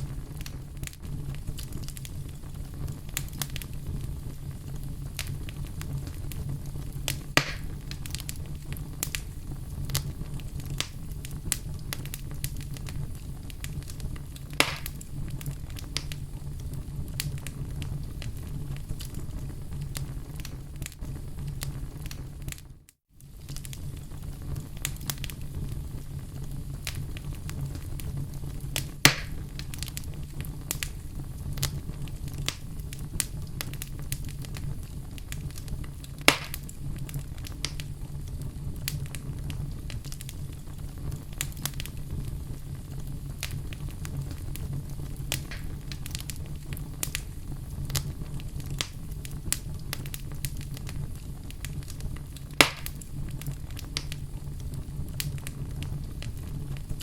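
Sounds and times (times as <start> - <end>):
fire crackling: 0.0 - 57.0
sharp fire pops: 0.0 - 57.0
wood fire rumbling: 0.0 - 57.0.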